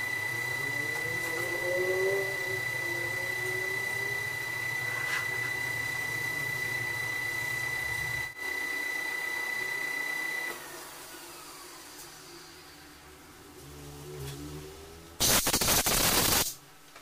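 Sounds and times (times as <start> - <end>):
metal lathe whining: 0.0 - 14.1.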